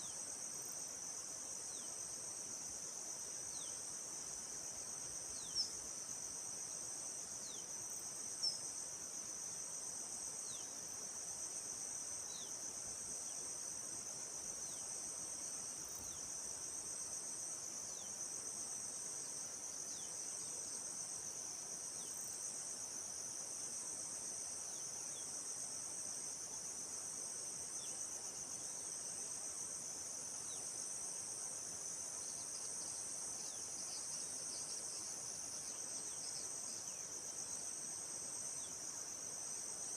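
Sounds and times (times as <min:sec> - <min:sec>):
faint forest ambience: 0:00.0 - 0:39.9
high-pitched insect chorus: 0:00.0 - 0:39.9.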